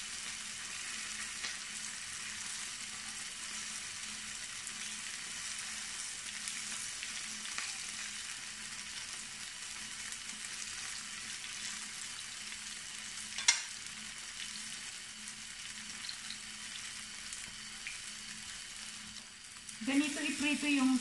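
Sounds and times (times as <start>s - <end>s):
tofu sizzling in hot oil: 0.0s - 21.0s.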